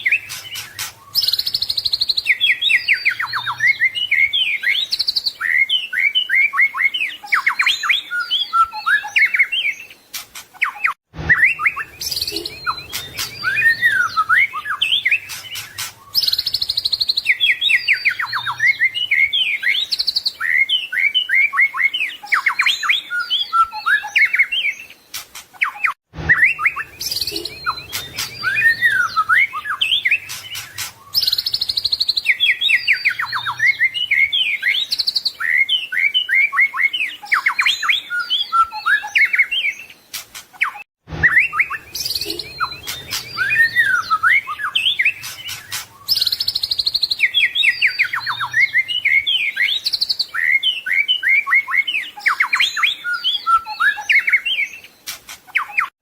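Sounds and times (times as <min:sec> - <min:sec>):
songbird singing whistles and trills: 0:00.0 - 0:56.0.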